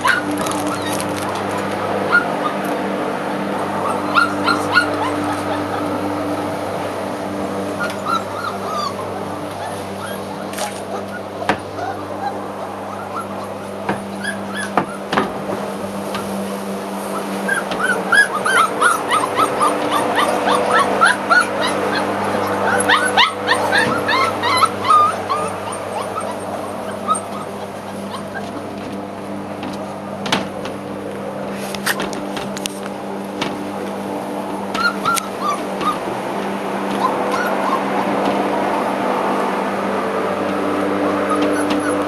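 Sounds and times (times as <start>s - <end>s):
puppies whining and yipping: 0.0s - 2.9s, 3.6s - 6.6s, 7.5s - 15.3s, 16.1s - 29.9s, 34.6s - 39.4s, 40.5s - 42.0s
lawnmower engine humming: 0.0s - 42.0s.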